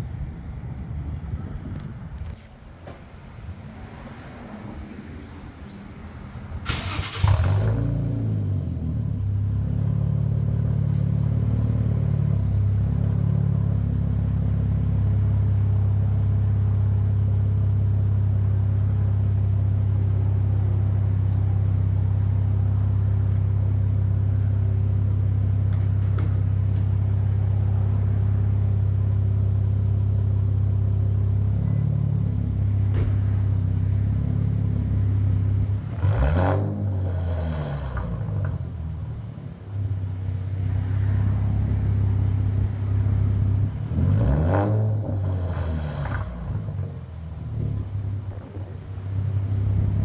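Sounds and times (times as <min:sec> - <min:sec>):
car engine starting and idling: 0:06.4 - 0:50.0.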